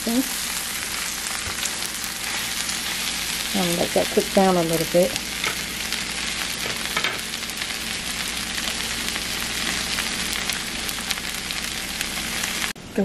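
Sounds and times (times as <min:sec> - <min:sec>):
frying pan sizzling and crackling: 0:00.0 - 0:13.0.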